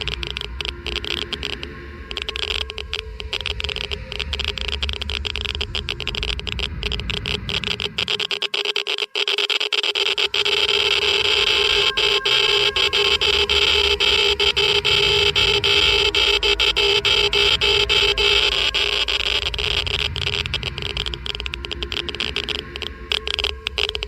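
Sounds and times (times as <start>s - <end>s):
low rumble: 0.0s - 8.2s, 10.3s - 24.0s
geiger counter clicking: 0.0s - 24.0s
steady hum: 0.0s - 24.0s.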